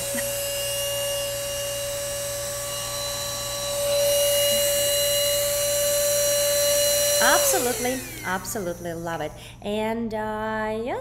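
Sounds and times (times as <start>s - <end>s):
handheld vacuum motor whine: 0.0s - 9.6s.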